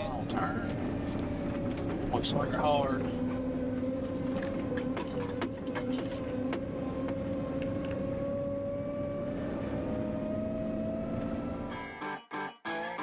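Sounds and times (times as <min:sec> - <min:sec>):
diesel engine heard from cab: 0:00.0 - 0:12.0.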